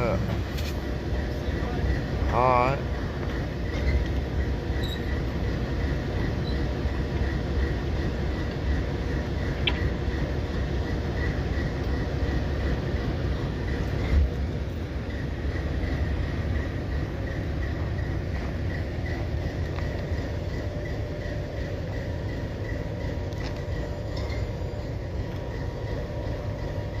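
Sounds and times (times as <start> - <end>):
locomotive idling rumble: 0.0 - 27.0.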